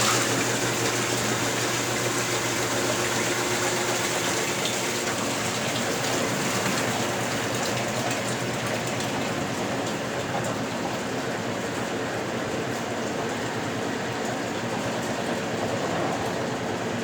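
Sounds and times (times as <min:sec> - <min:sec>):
washing machine running: 0:00.0 - 0:17.0
water rushing through machine: 0:00.0 - 0:17.0.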